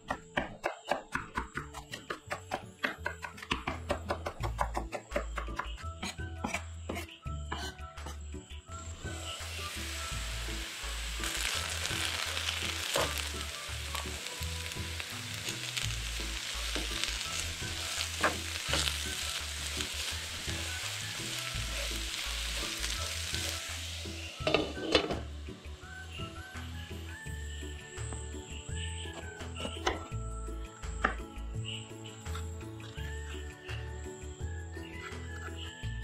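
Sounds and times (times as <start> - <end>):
potatoes and onion sizzling in oil: 1.8 - 36.0.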